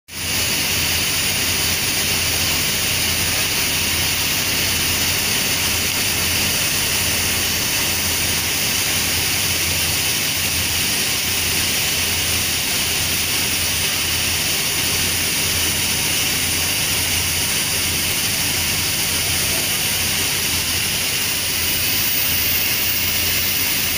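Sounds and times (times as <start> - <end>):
steam venting hiss: 0.1 - 23.9.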